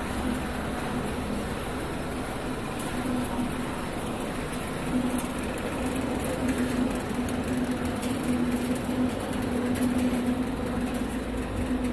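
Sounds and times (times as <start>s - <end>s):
machinery humming and droning: 0.0s - 11.9s.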